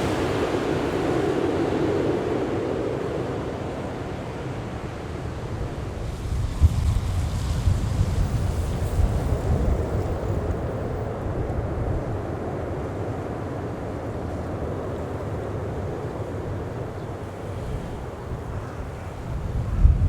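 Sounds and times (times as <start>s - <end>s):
distant jet engine rumble: 0.0s - 20.0s
wind buffeting microphone: 0.0s - 20.0s.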